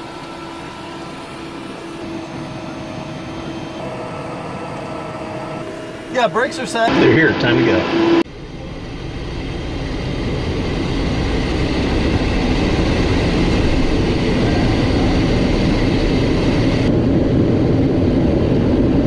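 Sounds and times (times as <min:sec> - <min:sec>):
thin high whine: 0:00.0 - 0:16.9
jet engines and air noise: 0:00.0 - 0:19.0.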